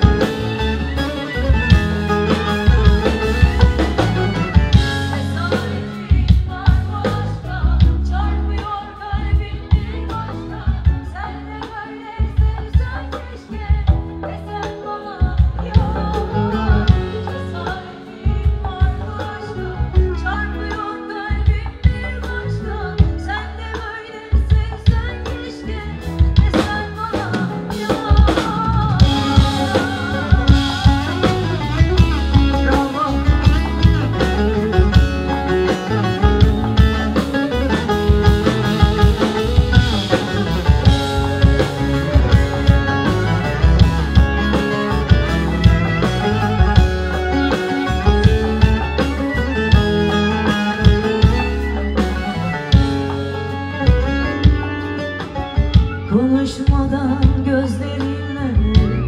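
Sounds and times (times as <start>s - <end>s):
woman singing: 0.0s - 52.8s, 56.0s - 59.0s
drums and cymbals: 0.0s - 59.0s
live pop band playing: 0.0s - 59.0s.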